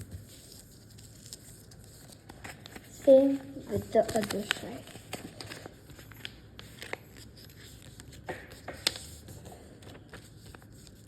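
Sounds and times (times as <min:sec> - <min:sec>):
paper crackles and taps: 0:00.0 - 0:11.0
paper rustling as folded: 0:00.0 - 0:11.0.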